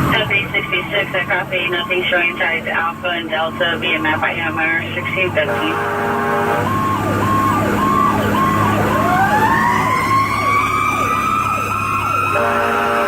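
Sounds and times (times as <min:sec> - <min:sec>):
electronic siren sweeping: 0:00.0 - 0:13.0
fire truck engine drone: 0:00.0 - 0:13.0.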